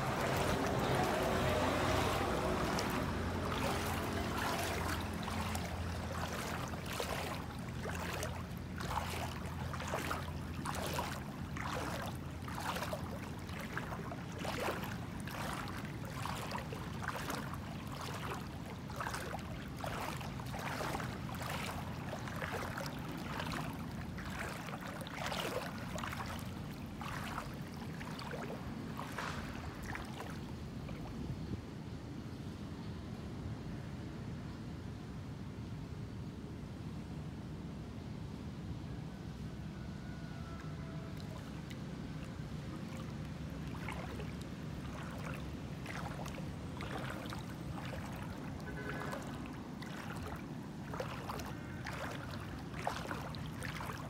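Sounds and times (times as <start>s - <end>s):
footsteps sloshing through water: 0.0s - 31.6s, 40.4s - 54.0s
low steady hum: 0.0s - 54.0s.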